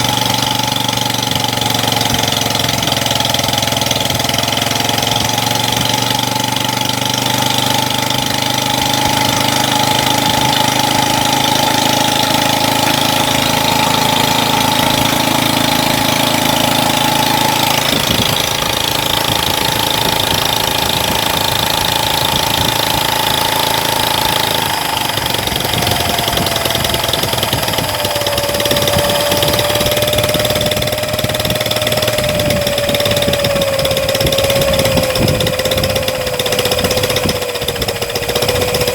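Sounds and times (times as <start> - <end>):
small engine running with whine: 0.0 - 38.9.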